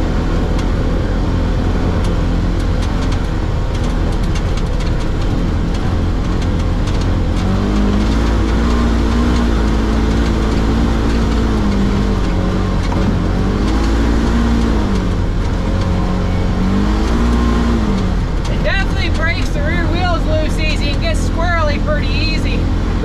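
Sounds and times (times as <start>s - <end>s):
rattles and clicks over bumps: 0.0s - 23.0s
utility vehicle engine under load: 0.0s - 23.0s.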